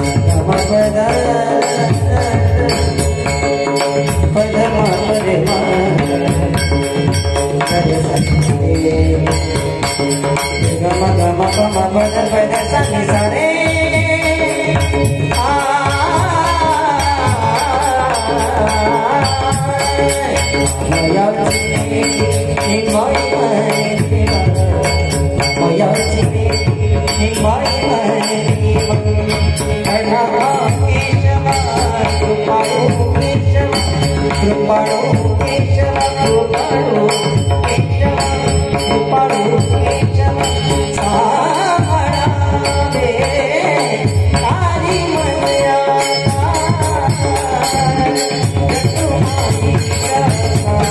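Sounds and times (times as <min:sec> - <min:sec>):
drum beat: 0:00.0 - 0:50.9
man singing devotional song: 0:00.0 - 0:50.9.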